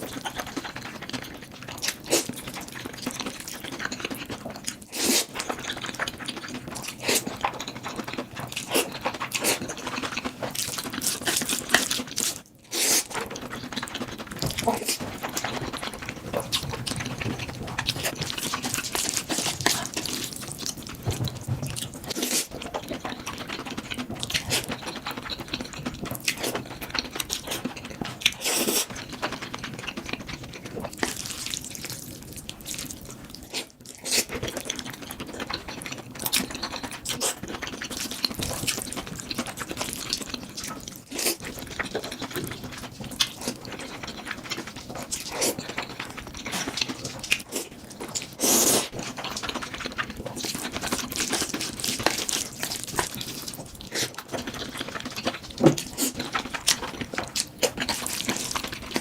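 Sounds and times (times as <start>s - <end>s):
wet chewing and smacking: 0.0s - 59.0s.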